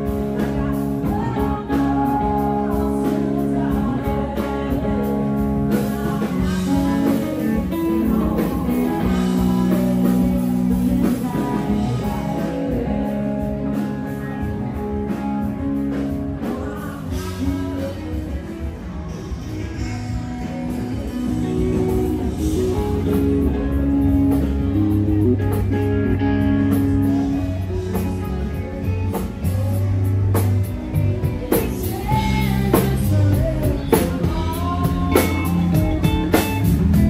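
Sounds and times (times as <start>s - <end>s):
live band guitar: 0.0s - 37.0s
person singing: 0.0s - 37.0s.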